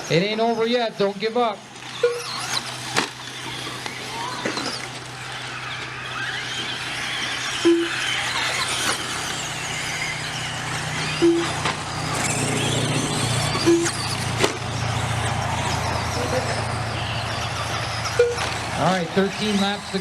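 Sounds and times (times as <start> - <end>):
rc truck motors whining: 0.0 - 20.0
trucks clacking on ground: 1.3 - 20.0.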